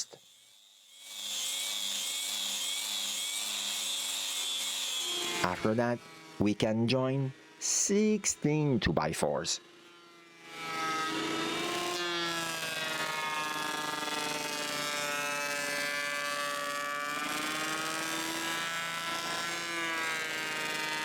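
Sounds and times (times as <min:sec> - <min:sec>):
electric wood jointer running: 0:00.0 - 0:08.6, 0:09.6 - 0:21.0.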